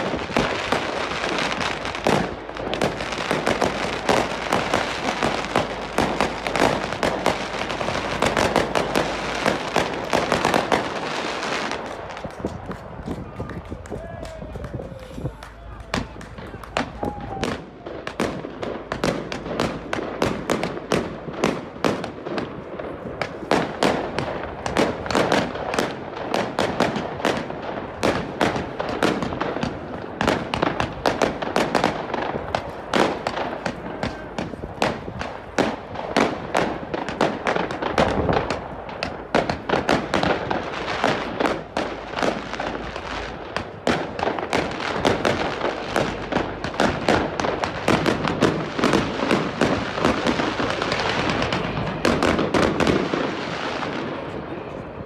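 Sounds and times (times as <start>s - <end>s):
fireworks cracking and banging: 0.0s - 55.0s.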